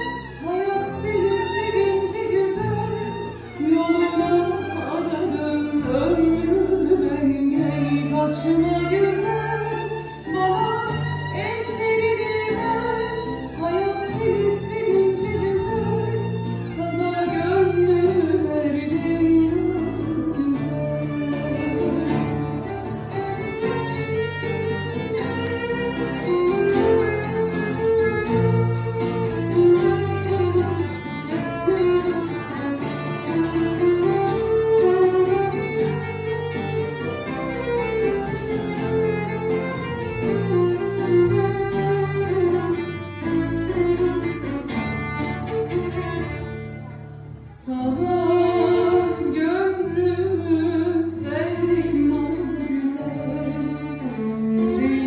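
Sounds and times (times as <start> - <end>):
violin melody: 0.0 - 55.0.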